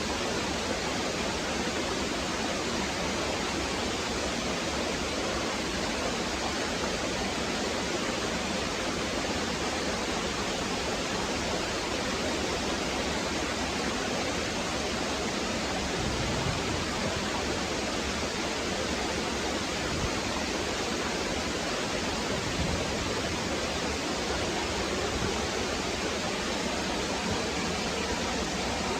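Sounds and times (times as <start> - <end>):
small waterfall splashing: 0.0 - 28.9.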